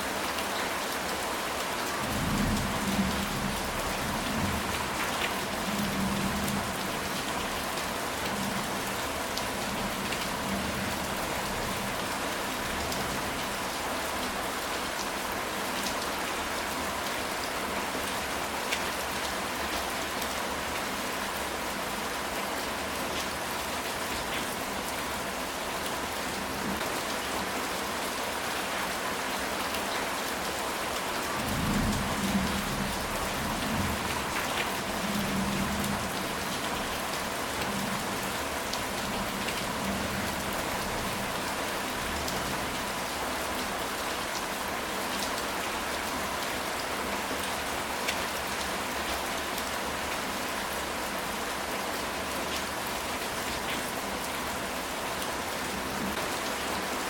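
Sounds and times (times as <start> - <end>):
rain falling on tile roof: 0.0 - 57.0.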